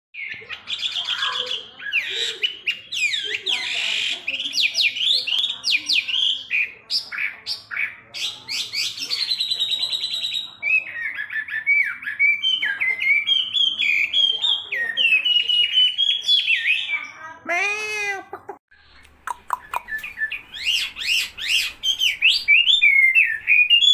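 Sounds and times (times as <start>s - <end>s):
laughingthrush singing: 0.2s - 23.9s.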